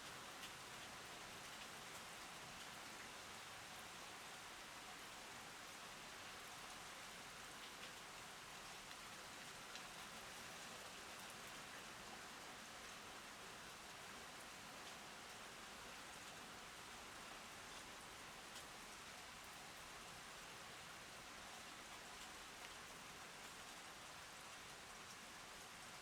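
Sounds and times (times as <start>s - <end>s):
faint raindrop ticks: 0.0s - 26.0s
steady rain hiss: 0.0s - 26.0s.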